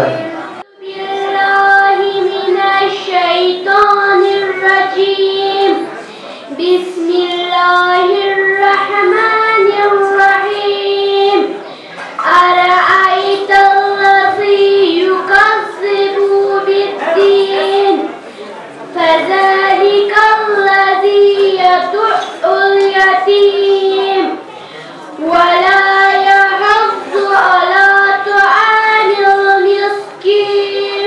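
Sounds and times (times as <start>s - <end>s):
child chanting melodically: 0.0s - 18.1s, 18.9s - 31.0s.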